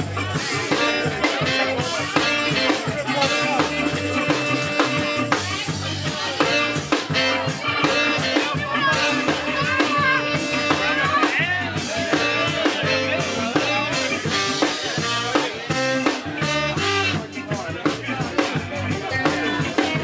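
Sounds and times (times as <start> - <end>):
reggae band playing: 0.0 - 20.0.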